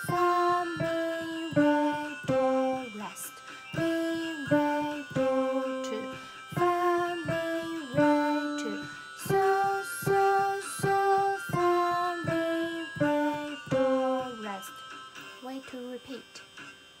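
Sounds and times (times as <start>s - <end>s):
electronic keyboard melody: 0.0s - 16.6s.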